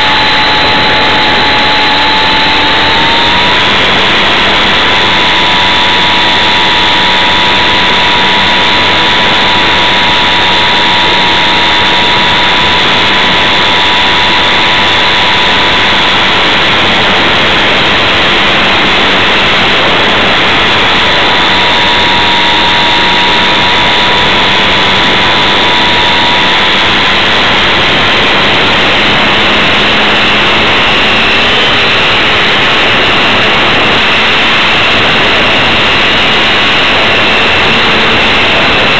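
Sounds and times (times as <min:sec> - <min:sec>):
model airplane motor whine: 0:00.0 - 0:38.9
wind rush: 0:00.0 - 0:38.9.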